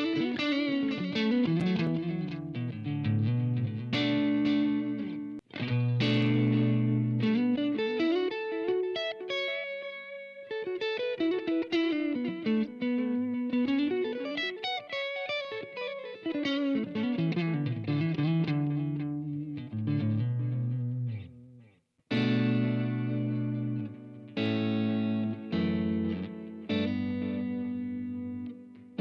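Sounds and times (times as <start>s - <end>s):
electric guitar lead lines: 0.0s - 29.0s.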